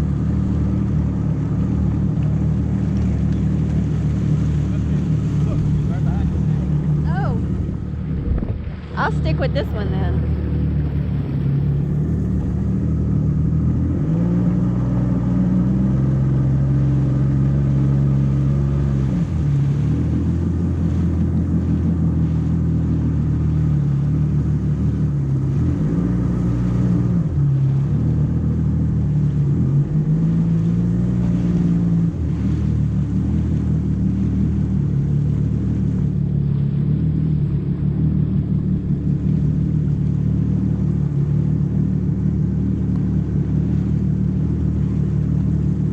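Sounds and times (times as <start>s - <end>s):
jet ski engine revving: 0.0s - 45.9s.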